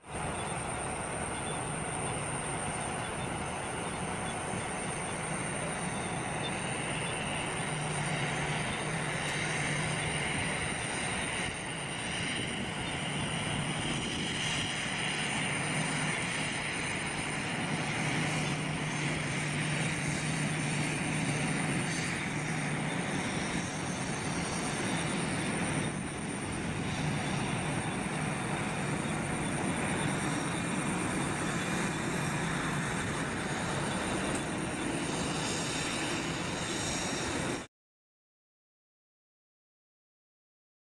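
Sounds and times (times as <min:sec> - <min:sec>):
jet engines taxiing: 0:00.0 - 0:37.7.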